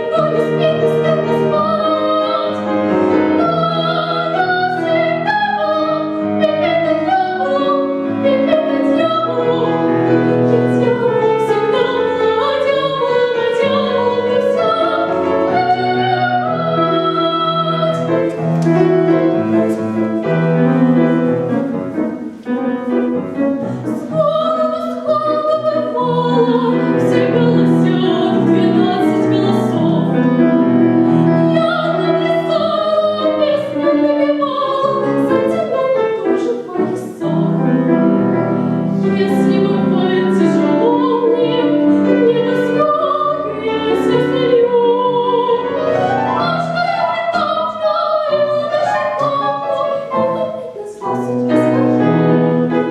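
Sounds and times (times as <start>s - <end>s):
woman singing operatically: 0.0s - 19.0s, 22.4s - 30.4s, 31.2s - 37.9s, 39.0s - 52.9s
piano: 0.0s - 52.9s.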